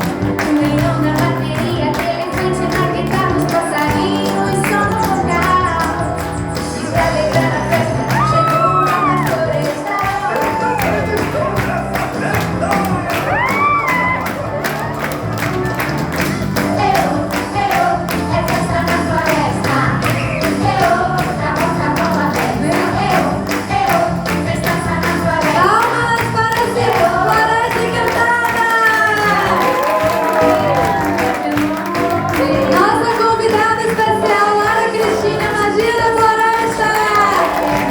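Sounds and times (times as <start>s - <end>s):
people singing: 0.0s - 37.9s
steady percussive beat: 0.0s - 37.9s.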